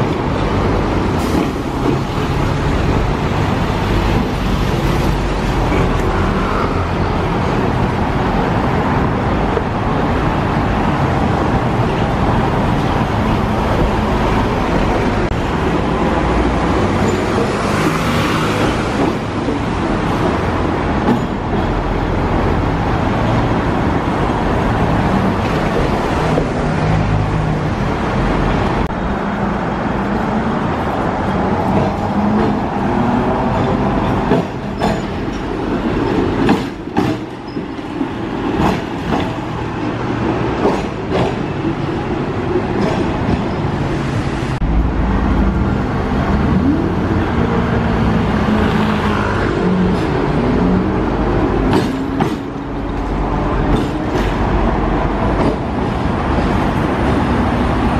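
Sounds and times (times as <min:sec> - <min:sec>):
passing cars and buses: 0:00.0 - 0:57.9.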